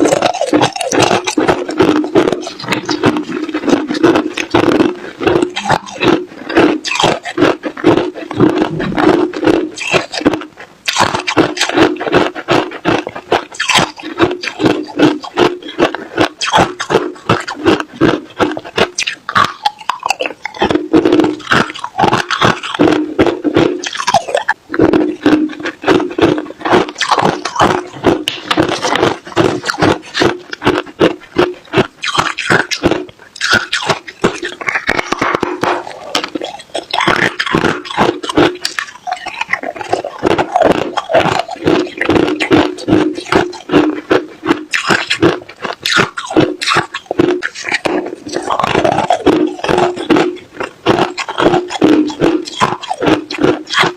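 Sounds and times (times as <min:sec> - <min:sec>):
crushed ice being chewed: 0:00.0 - 0:53.9.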